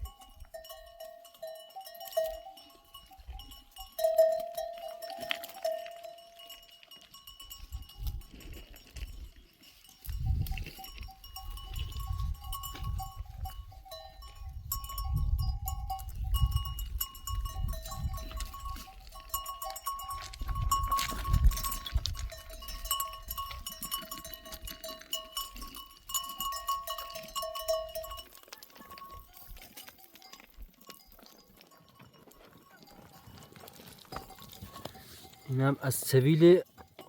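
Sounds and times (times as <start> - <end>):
animal bells ringing: 0.0 - 37.0.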